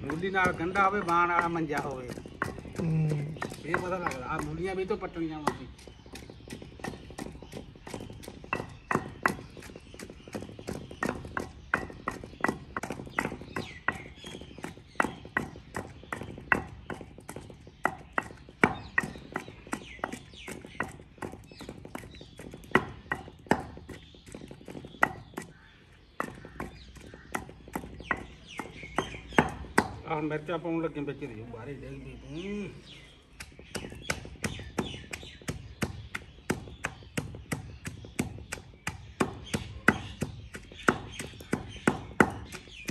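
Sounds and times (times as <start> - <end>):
pestle pounding in mortar: 0.0 - 31.2, 32.7 - 42.9.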